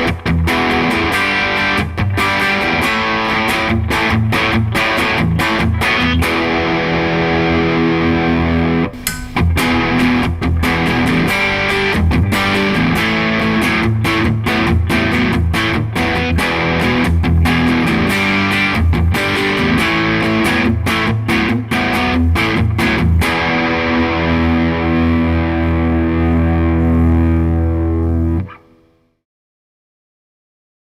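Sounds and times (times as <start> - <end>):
distorted electric guitar: 0.0 - 29.1.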